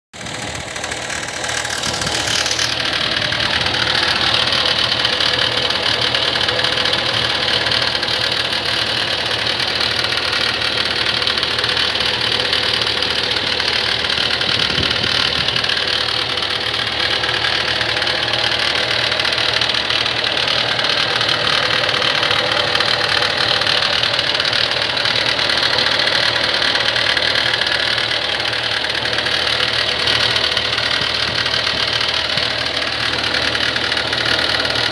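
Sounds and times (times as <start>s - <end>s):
diesel engine running: 0.1s - 34.9s
abnormal engine noise: 0.2s - 34.9s.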